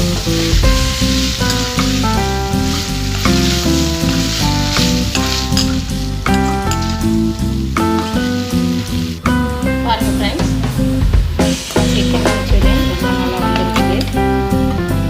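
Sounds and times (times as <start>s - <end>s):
background music with bass: 0.0s - 15.0s
food sizzling and frying: 0.0s - 15.0s.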